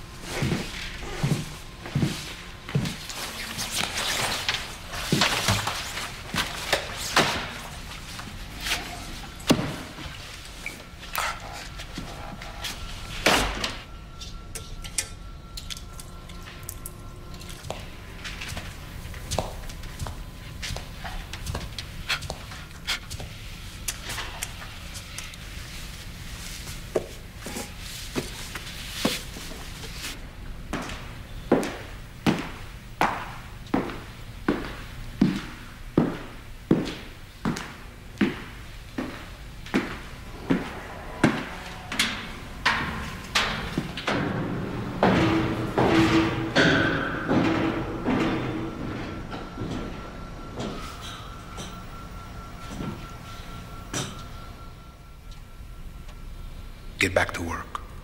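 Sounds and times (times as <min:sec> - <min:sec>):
low hum: 0:00.0 - 0:57.0
footsteps: 0:00.2 - 0:13.6, 0:16.3 - 0:51.8.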